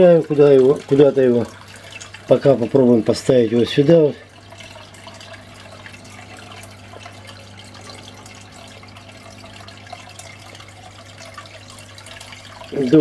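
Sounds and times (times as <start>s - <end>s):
low steady hum: 0.0s - 13.0s
water trickling and bubbling: 0.0s - 13.0s.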